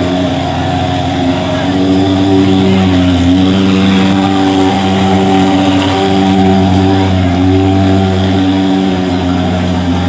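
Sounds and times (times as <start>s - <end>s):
fogging machine pulse-jet engine running: 0.0s - 10.0s.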